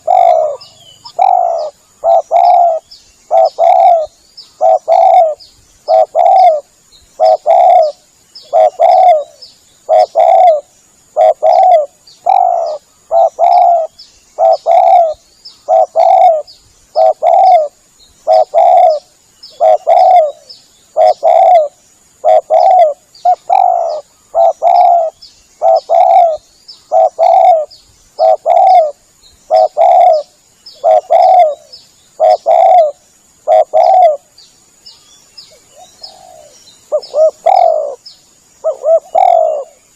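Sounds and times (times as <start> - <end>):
dove cooing: 0.0 - 34.3, 35.5 - 38.0, 38.6 - 39.8.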